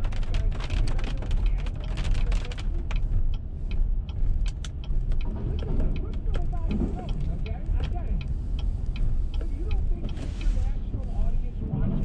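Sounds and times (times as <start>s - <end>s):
car road noise on wet road: 0.0s - 11.6s.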